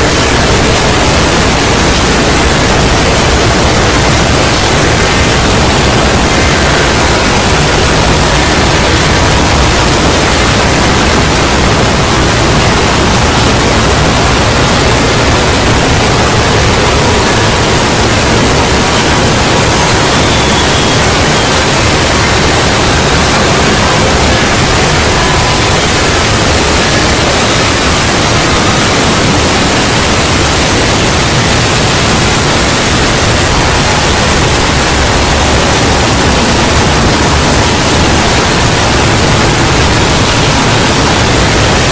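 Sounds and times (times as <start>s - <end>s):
harsh distorted static noise: 0.0s - 41.9s.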